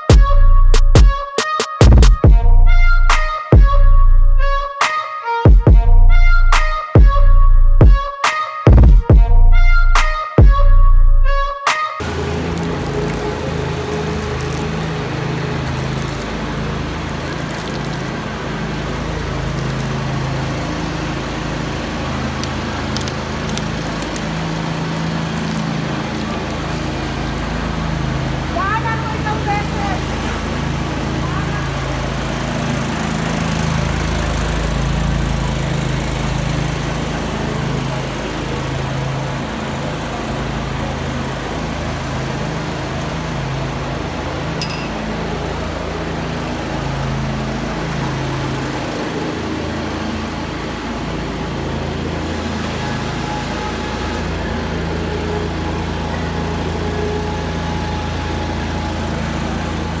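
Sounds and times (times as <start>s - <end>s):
small engine running: 0.0s - 4.9s, 11.7s - 60.0s.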